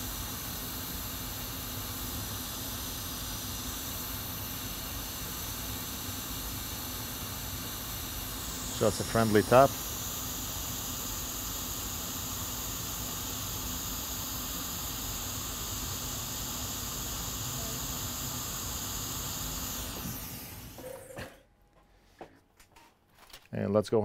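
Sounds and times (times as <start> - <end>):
hot air blower hissing: 0.0 - 21.4.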